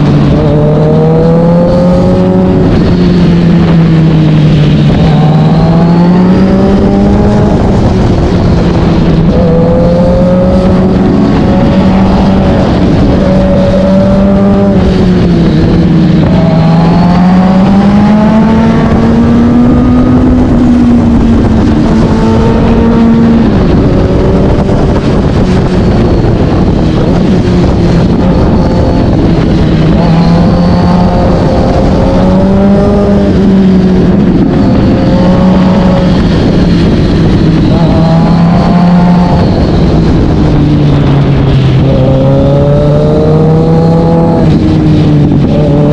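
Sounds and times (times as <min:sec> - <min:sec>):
motorcycle engine revving: 0:00.0 - 0:45.9
wind and road noise: 0:00.0 - 0:45.9.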